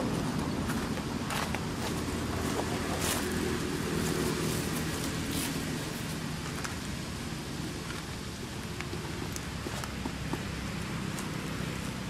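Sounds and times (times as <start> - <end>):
dry leaves crackling: 0.0 - 10.0
distant traffic hum: 0.0 - 12.0.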